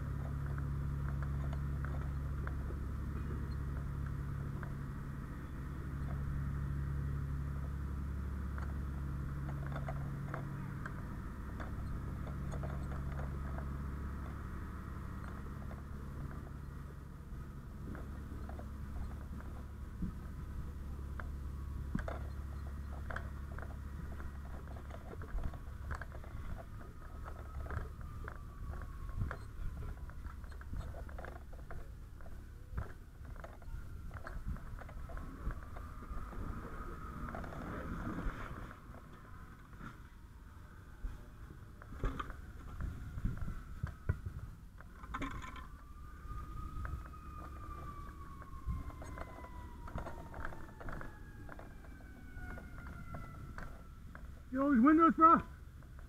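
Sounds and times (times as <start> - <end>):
steady low drone: 0.0 - 54.6
low steady rumble: 0.0 - 56.0.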